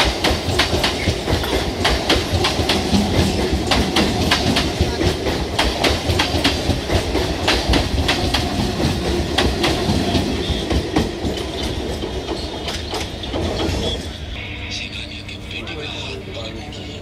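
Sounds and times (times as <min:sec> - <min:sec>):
wheels clacking over rail joints: 0:00.0 - 0:14.1
train rumble: 0:00.0 - 0:17.0.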